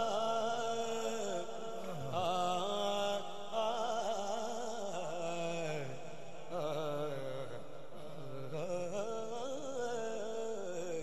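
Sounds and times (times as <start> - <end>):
young man singing devotional song: 0.0 - 11.0.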